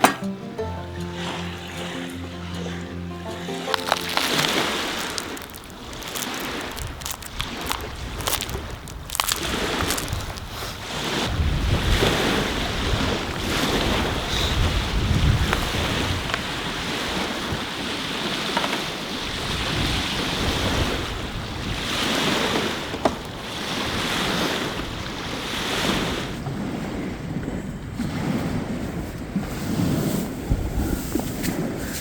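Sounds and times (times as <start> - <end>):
wind buffeting microphone: 5.1 - 18.4, 19.0 - 32.0.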